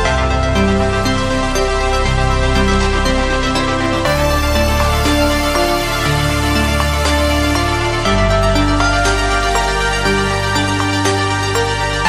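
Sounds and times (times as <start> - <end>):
background music with sustained notes: 0.0 - 12.0.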